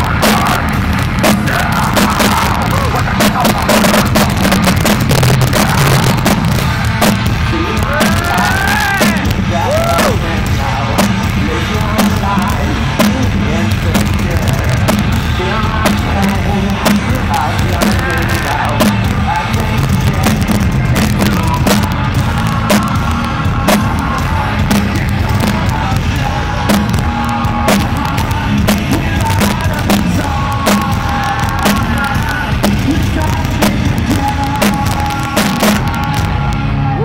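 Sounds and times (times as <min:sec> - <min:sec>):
steady drum beat: 0:00.0 - 0:36.7
live rock band playing: 0:00.0 - 0:37.0.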